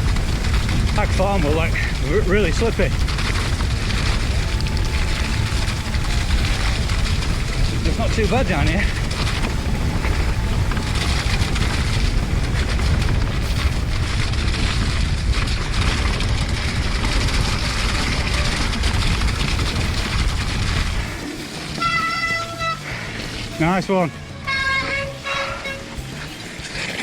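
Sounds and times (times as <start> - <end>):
wind buffeting microphone: 0.0 - 23.7
low rumble: 0.0 - 26.6
bike rattling over rocks: 0.0 - 27.0.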